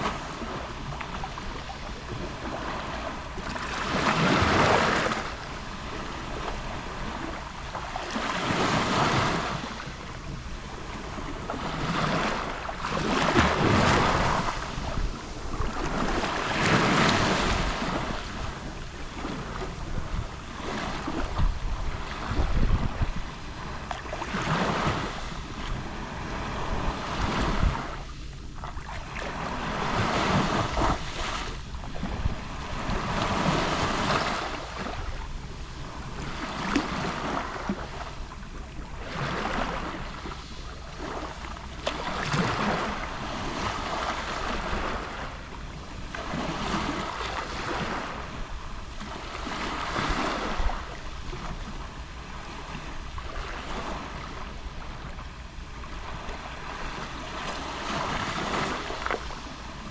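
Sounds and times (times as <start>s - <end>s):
small waves lapping on shore: 0.0s - 59.9s.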